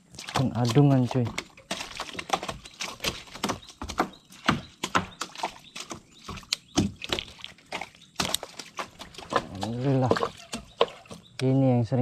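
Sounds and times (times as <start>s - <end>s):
fish slapping against wooden hull: 0.0s - 11.4s.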